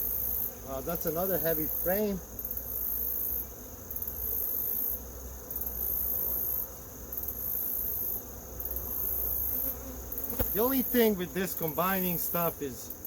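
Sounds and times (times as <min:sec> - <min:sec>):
honeybees humming: 0:00.0 - 0:13.0
insect chirping in pulses: 0:00.0 - 0:13.0.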